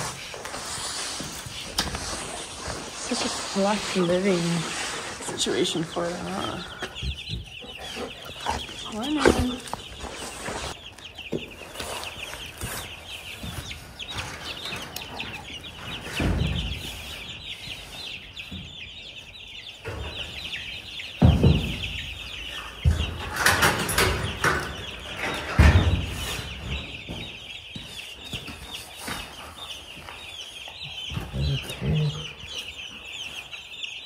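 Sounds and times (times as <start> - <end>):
baby chicks peeping: 0.0 - 34.0.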